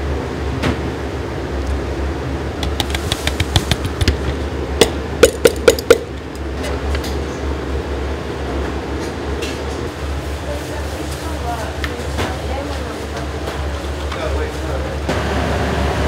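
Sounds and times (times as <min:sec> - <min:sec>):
kitchen hum: 0:00.0 - 0:16.0.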